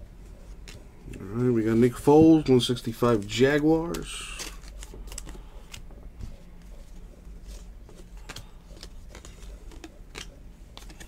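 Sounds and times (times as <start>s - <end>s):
steady low hum: 0.0s - 11.0s
trading cards clicking and sliding: 0.2s - 11.0s.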